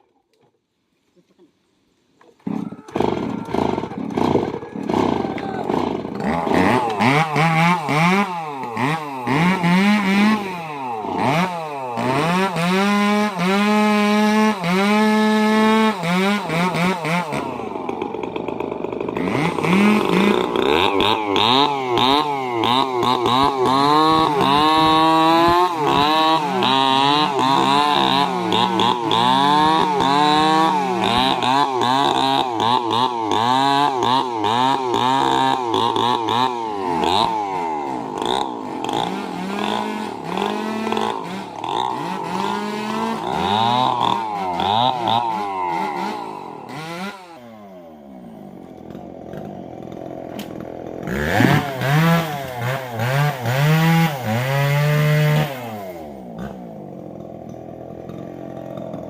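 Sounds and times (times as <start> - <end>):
chainsaw cutting log: 2.3 - 59.0.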